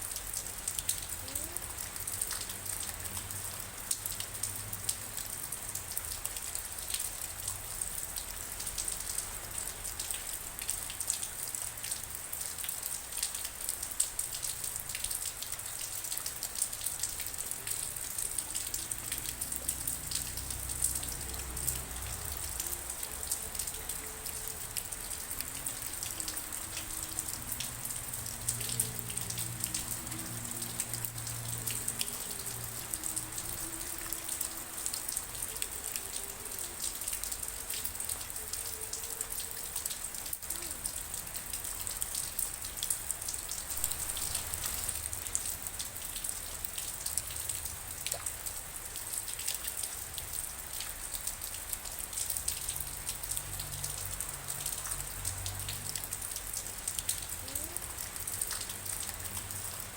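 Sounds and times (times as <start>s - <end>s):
rain patter: 0.0s - 59.9s.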